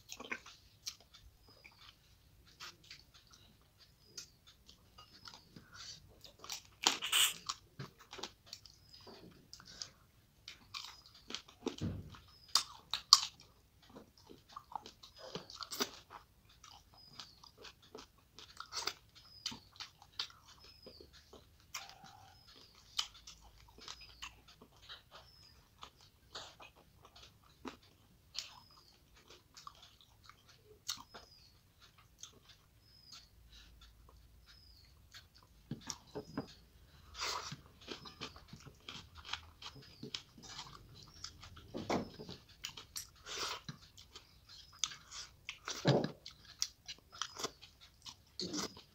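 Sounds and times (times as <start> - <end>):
chewing and mouth smacking: 0.0 - 48.9.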